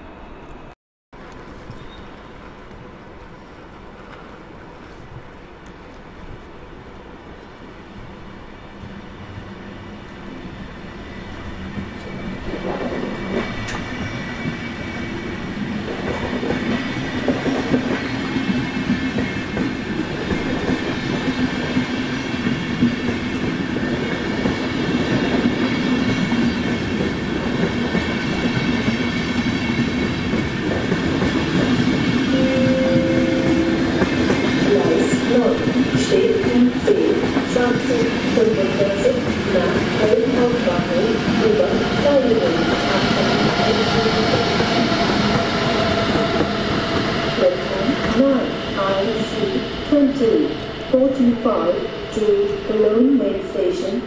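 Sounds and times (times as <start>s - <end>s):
train approaching on track: 0.0s - 54.0s.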